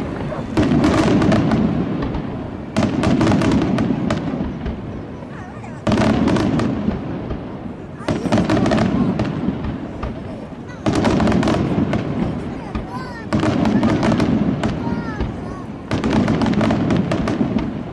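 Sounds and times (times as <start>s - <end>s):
firework crackling: 0.0s - 17.9s.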